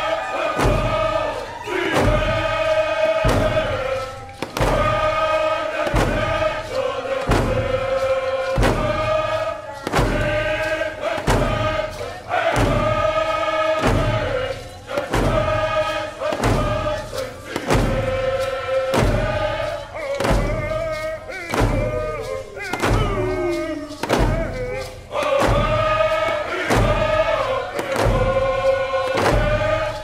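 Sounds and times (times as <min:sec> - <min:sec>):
chanted singing: 0:00.0 - 0:30.0
steady drumbeat: 0:00.0 - 0:30.0.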